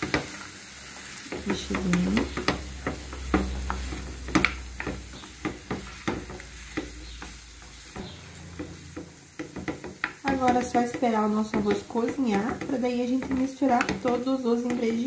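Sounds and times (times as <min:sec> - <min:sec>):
wooden spoon stirring onion in a pan: 0:00.0 - 0:15.0
spoon scraping and tapping a pan: 0:01.3 - 0:15.0.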